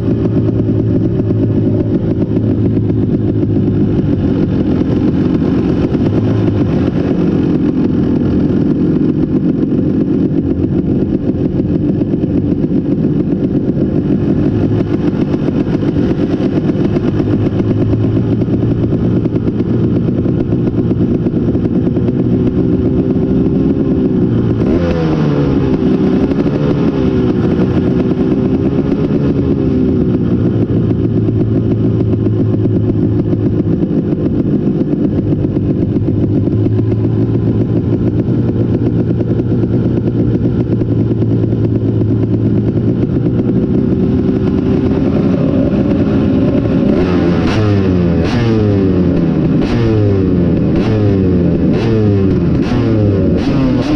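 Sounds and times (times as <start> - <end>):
motocross engine revving: 0.0 - 53.9.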